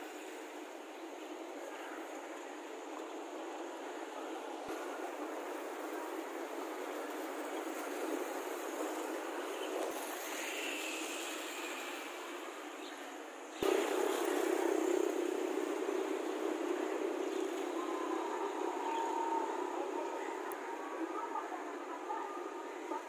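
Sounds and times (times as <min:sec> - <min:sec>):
street ambience rushing noise: 0:00.0 - 0:23.0.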